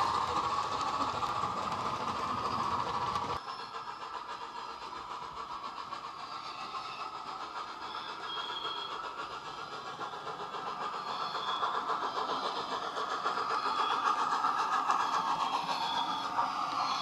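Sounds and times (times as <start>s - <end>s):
steam exhaust chuffs from small speaker: 0.0s - 17.0s.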